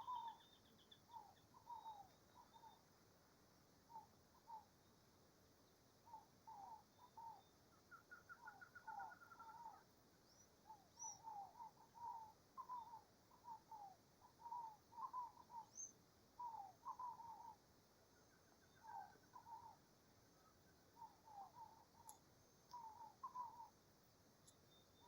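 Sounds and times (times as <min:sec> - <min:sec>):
birds calling faintly: 0:00.0 - 0:25.0.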